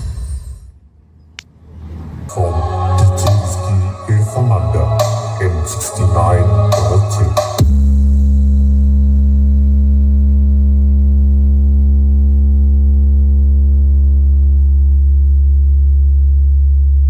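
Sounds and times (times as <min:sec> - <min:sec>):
deep bass test tone: 0:02.3 - 0:17.0.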